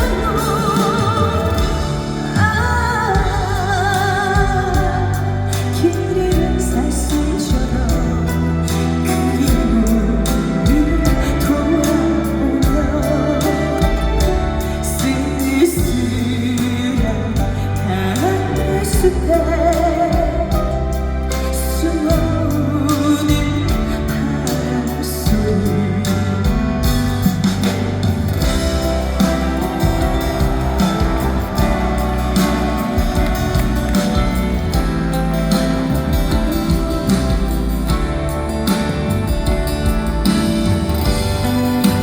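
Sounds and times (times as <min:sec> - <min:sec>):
live band accompaniment: 0:00.0 - 0:42.0
woman singing ballad: 0:00.0 - 0:42.0.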